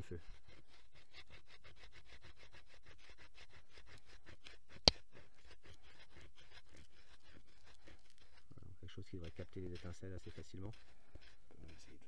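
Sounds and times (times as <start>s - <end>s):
knife scraping a stick: 0.0s - 12.0s.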